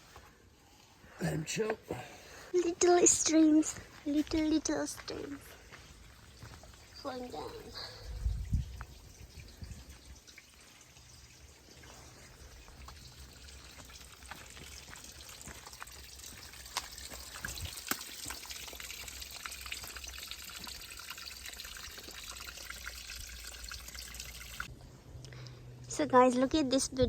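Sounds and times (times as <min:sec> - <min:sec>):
forest stream trickling and splashing: 0:02.3 - 0:24.7.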